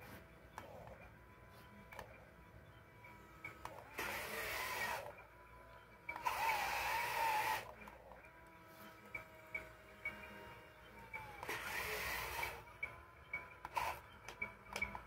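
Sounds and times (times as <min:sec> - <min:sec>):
electric toy motor whining: 0:00.0 - 0:15.0.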